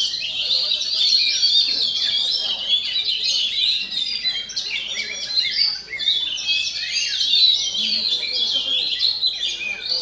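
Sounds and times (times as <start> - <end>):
bird singing chirps and whistles: 0.0 - 10.0.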